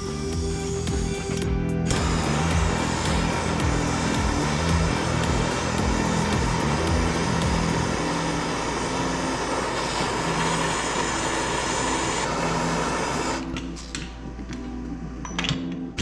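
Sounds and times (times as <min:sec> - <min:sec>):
gas torch hissing: 0:00.0 - 0:13.5
background music with bass: 0:00.0 - 0:16.0.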